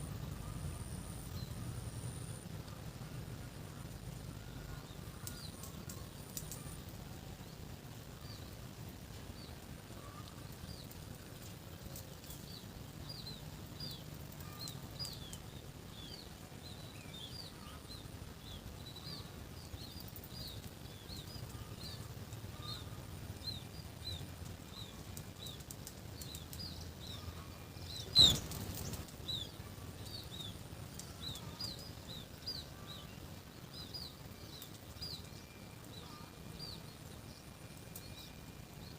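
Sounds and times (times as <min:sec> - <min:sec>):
low steady rumble: 0:00.0 - 0:38.9
small birds chirping: 0:00.0 - 0:38.9.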